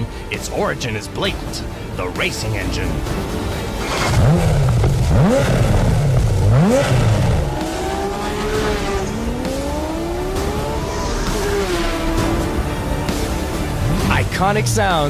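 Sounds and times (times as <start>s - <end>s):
car engine revving: 1.3s - 15.0s.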